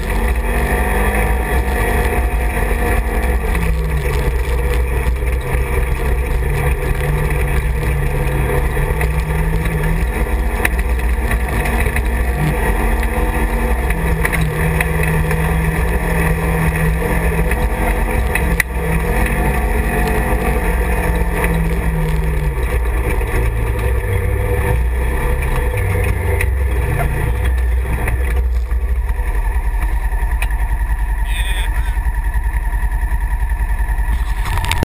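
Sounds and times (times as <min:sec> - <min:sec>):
utility vehicle engine running: 0:00.0 - 0:34.9.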